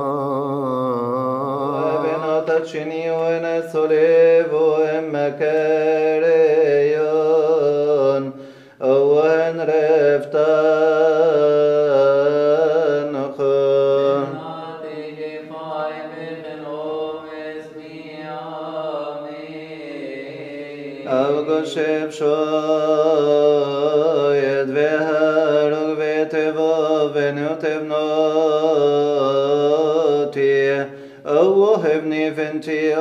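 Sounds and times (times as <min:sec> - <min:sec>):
person chanting slowly: 0:00.0 - 0:33.0.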